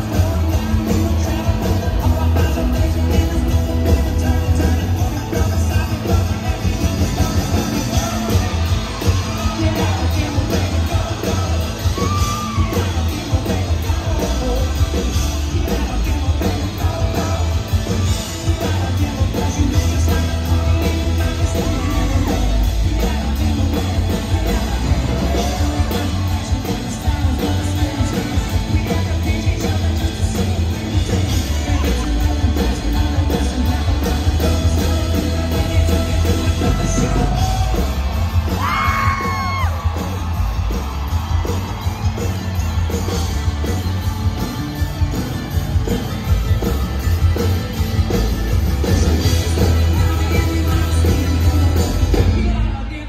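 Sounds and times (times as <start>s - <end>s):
country-rock band playing: 0.0s - 53.0s
crowd shouting: 0.0s - 53.0s.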